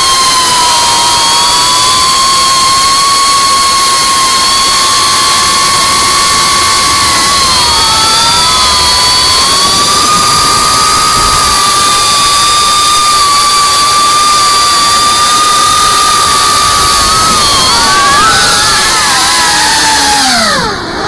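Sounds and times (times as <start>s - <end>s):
drone motors and propellers whining: 0.0s - 21.0s.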